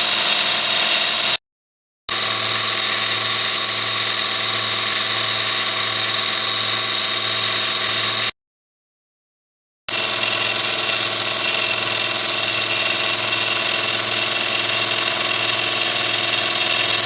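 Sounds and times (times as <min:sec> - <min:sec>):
belt sander motor whirring: 0:00.0 - 0:01.4, 0:02.1 - 0:08.3, 0:09.9 - 0:17.0.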